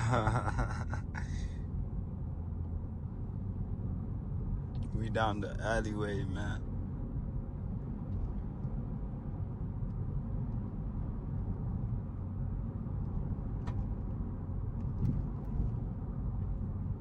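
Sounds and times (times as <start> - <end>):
car tyres and engine rumbling: 0.0 - 17.0.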